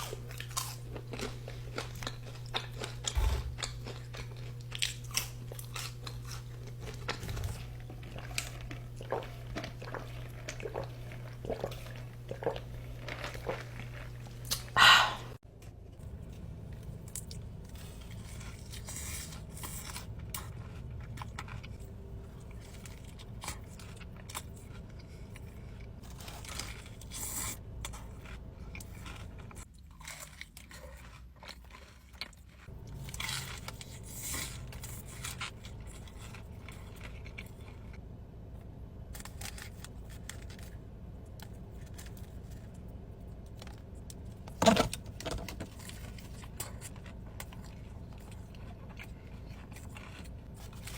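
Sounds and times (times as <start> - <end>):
steady low hum: 0.0 - 29.7, 32.6 - 50.9
crunching and chewing: 0.0 - 50.9.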